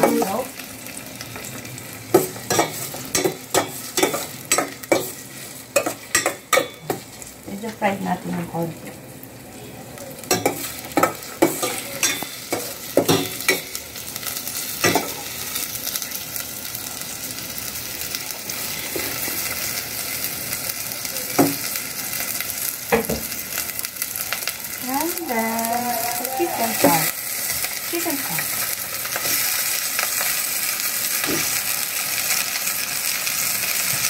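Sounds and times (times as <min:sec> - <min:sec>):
food sizzling in a saucepan: 0:00.0 - 0:34.0.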